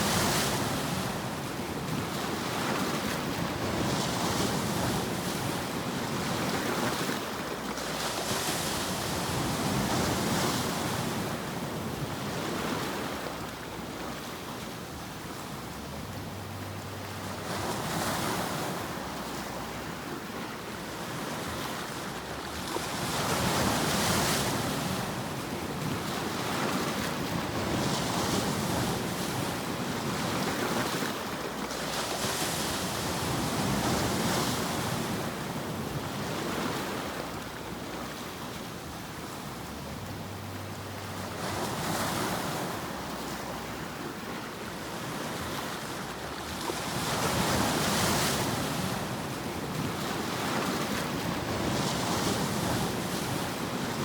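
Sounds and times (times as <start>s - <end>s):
ocean surf washing: 0.0s - 54.0s.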